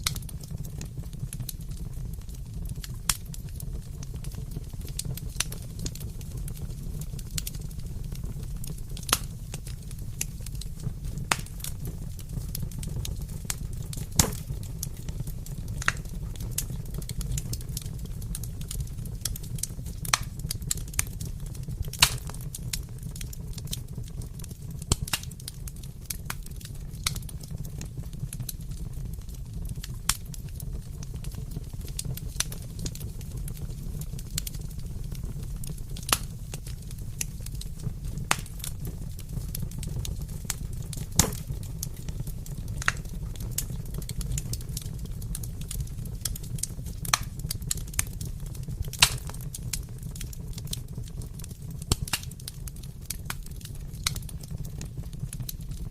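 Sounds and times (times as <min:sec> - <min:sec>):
low rumble of fire: 0:00.0 - 0:55.9
wood fire crackling: 0:00.0 - 0:55.9.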